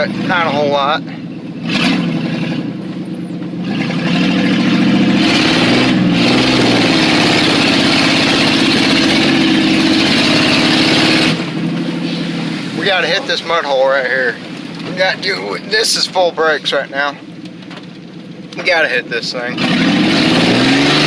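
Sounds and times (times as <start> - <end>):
pickup engine revving: 0.0 - 21.0.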